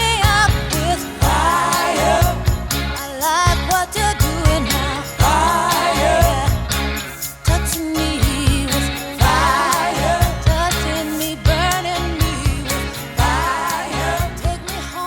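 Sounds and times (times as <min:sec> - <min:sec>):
bass and drums: 0:00.0 - 0:15.0
woman singing pop-soul song: 0:00.0 - 0:15.0.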